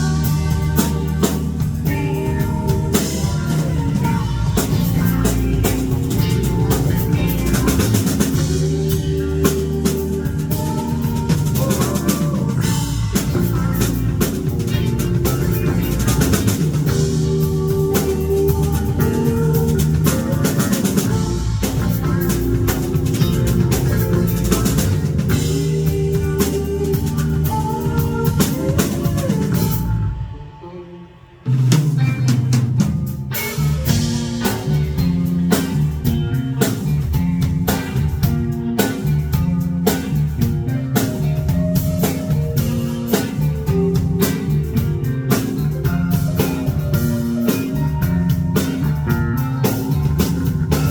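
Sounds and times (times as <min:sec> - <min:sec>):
drum kit beat: 0:00.0 - 0:30.4, 0:31.5 - 0:50.9
bass guitar notes: 0:00.0 - 0:50.9
sustained electric guitar: 0:00.0 - 0:50.9.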